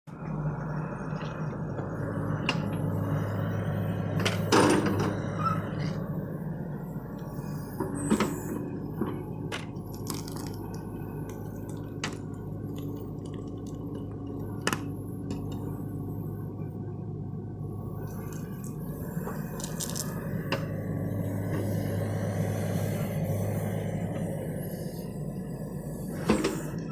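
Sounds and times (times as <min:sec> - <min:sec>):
excavator diesel engine humming: 0:00.1 - 0:26.9.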